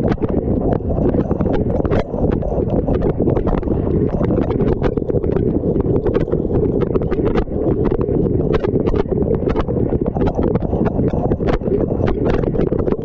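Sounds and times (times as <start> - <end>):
water jets splatting and clicking: 0.0 - 13.0.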